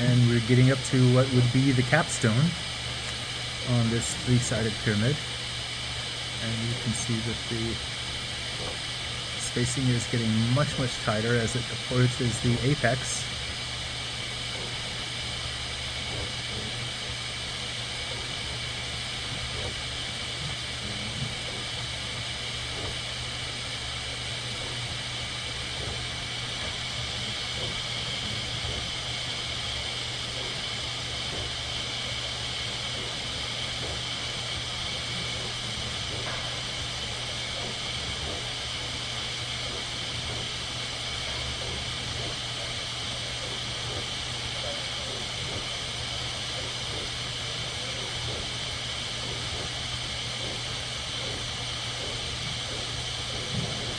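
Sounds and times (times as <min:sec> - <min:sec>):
low motor hum: 0:00.0 - 0:53.9
printer fan hiss: 0:00.0 - 0:53.9.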